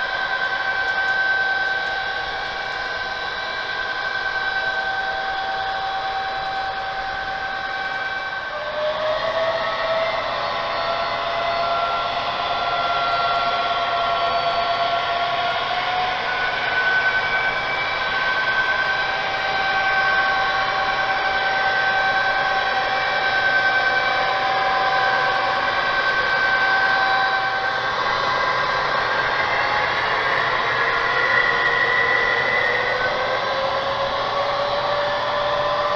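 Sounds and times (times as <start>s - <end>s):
model train locomotive whine: 0.0s - 35.9s.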